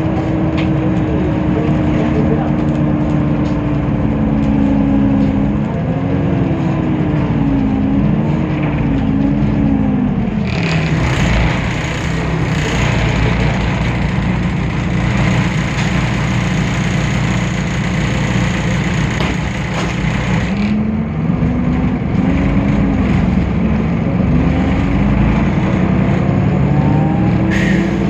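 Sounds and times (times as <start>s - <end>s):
bus diesel engine droning: 0.0s - 28.0s.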